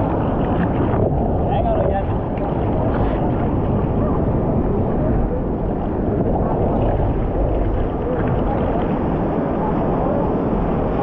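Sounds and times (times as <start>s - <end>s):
sea water sloshing and splashing: 0.0s - 11.0s
wind rumbling on microphone: 0.0s - 11.0s.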